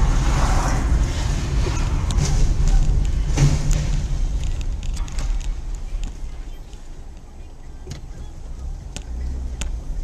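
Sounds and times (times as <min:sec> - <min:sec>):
car cabin engine and road rumble: 0:00.0 - 0:10.0.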